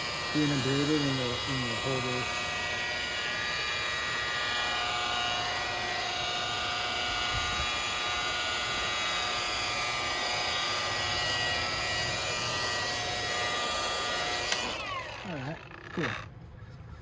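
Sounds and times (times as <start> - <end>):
polisher motor whine: 0.0 - 16.3.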